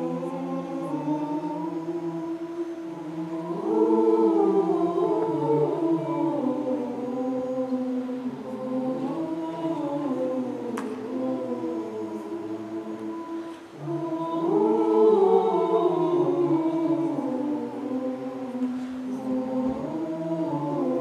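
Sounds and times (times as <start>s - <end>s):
choir singing a march: 0.0s - 21.0s.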